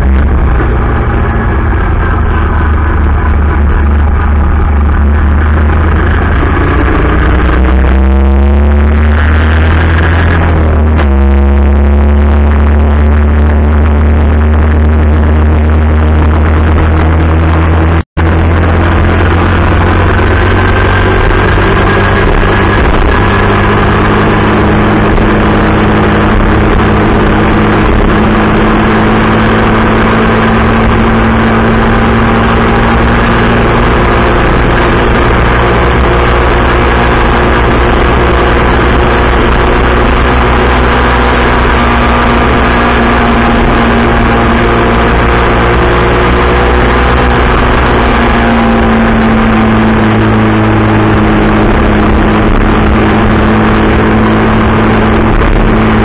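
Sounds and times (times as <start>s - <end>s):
vehicle engine driving: 0.0s - 56.0s.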